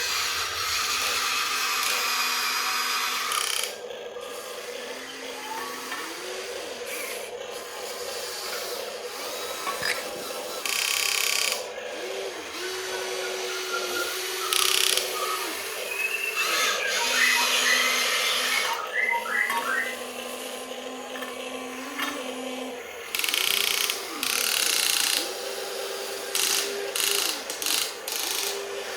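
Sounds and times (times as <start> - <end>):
small electric motors whining: 0.0 - 28.9.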